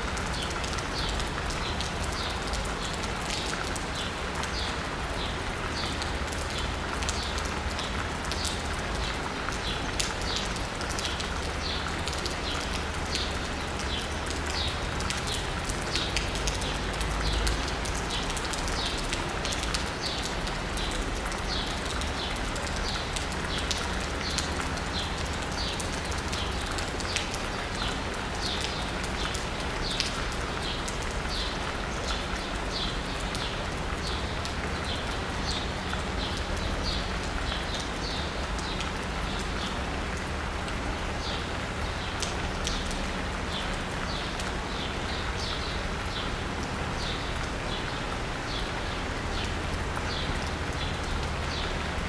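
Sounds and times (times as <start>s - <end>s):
rain pattering on asphalt and roof: 0.0s - 52.0s.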